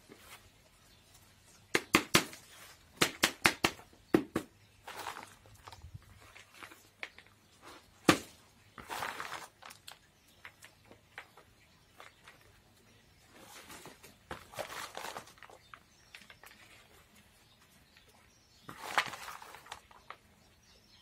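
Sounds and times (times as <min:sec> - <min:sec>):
hands rustling bark potting mix: 0:00.0 - 0:21.0.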